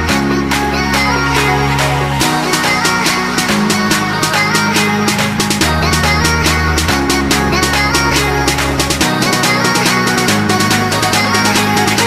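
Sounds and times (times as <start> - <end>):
electronic music with drum beat: 0.0 - 12.0.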